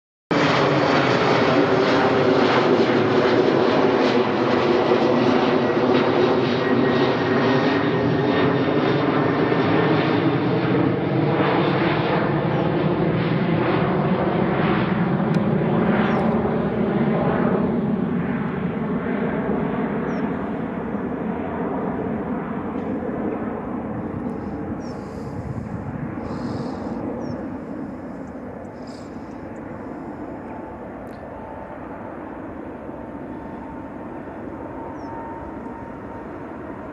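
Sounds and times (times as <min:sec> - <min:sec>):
jet engines at take-off power: 0:00.3 - 0:36.9
constant humming tones: 0:00.4 - 0:36.9.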